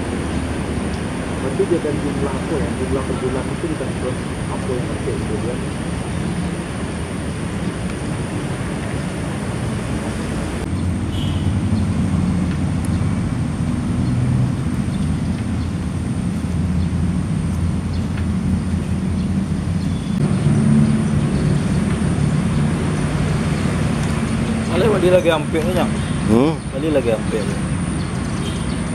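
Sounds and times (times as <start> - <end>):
engine rumbling: 0.0 - 28.9.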